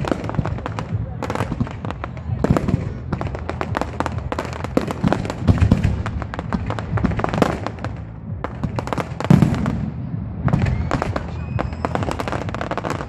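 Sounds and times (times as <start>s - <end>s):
fireworks booms: 0.0s - 13.0s
fireworks crackling and popping: 0.0s - 13.0s.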